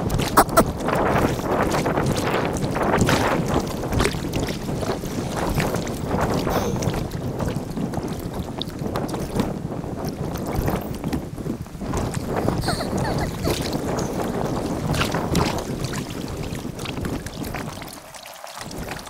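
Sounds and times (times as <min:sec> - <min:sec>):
paddle strokes and splashing: 0:00.0 - 0:19.0
rushing water: 0:00.0 - 0:19.0
wind buffeting microphone: 0:00.0 - 0:19.0.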